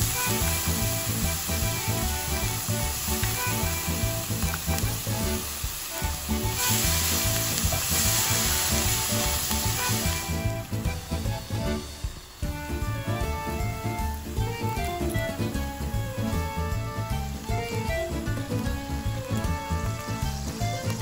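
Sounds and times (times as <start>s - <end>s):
light background music: 0.0s - 21.0s
vegetables sizzling in a pan: 0.0s - 21.0s.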